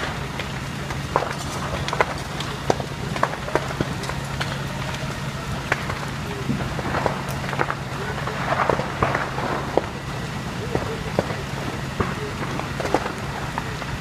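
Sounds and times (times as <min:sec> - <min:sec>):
fire crackling and popping: 0:00.0 - 0:14.0
fire engine running: 0:00.0 - 0:14.0.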